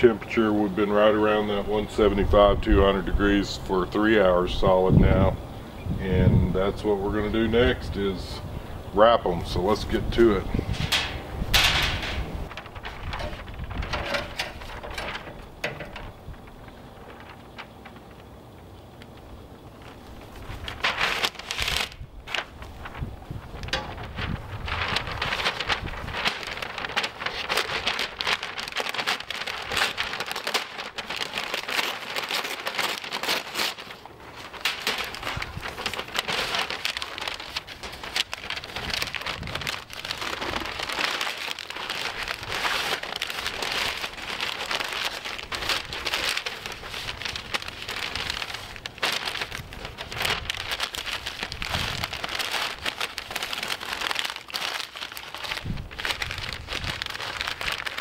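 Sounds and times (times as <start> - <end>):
paper crinkling and rustling: 9.0 - 58.0.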